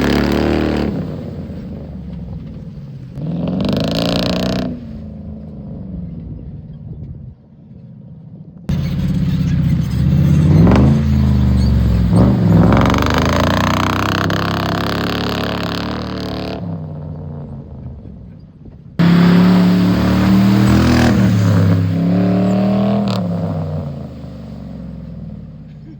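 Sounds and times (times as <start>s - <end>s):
truck engine revving: 0.0s - 6.4s, 8.7s - 18.4s, 19.0s - 25.9s.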